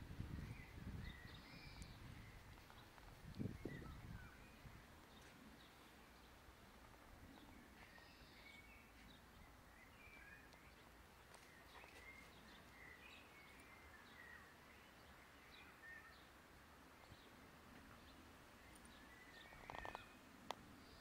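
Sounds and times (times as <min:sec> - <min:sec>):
faint bird chirps: 0:00.5 - 0:06.3, 0:07.2 - 0:16.4, 0:17.3 - 0:21.0.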